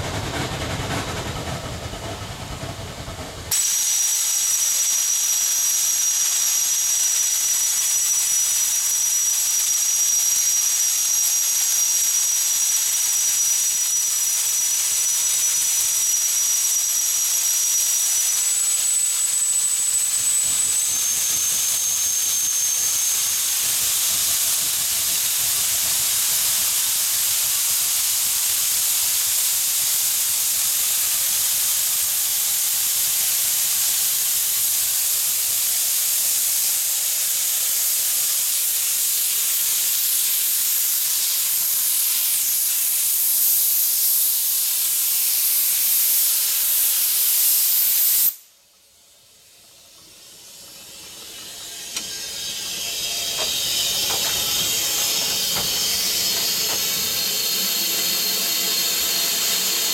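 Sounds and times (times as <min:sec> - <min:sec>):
steam locomotive hissing steam: 0:00.0 - 0:59.9.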